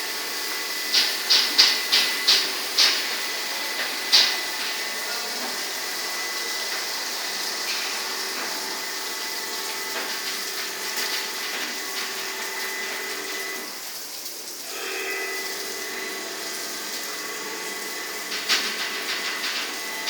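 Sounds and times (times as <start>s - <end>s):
high-pressure water spray hiss: 0.0s - 20.0s.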